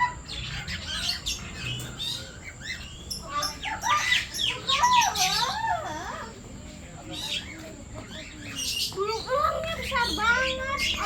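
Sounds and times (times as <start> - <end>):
warbling bird calls: 0.0 - 6.4, 7.1 - 11.0
birds chirping: 0.0 - 11.0.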